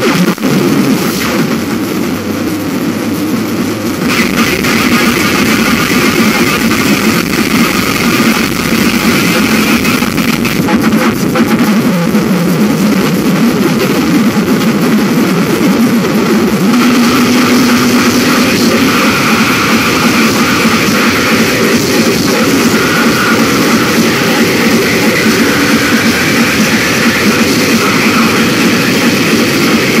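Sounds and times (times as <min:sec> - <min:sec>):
dense distorted noise music: 0:00.0 - 0:30.0.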